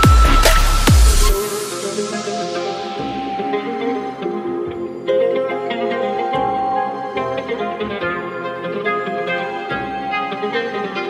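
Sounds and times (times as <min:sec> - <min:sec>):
instrumental music with plucked strings: 0:00.0 - 0:11.0.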